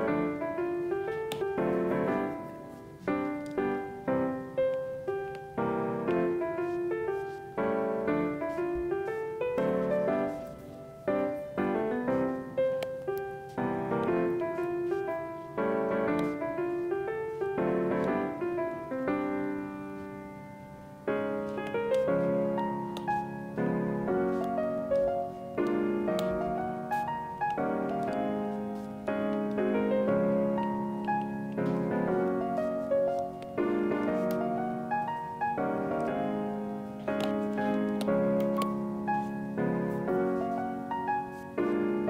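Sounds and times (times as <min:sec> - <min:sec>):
piano melody: 0:00.0 - 0:42.0.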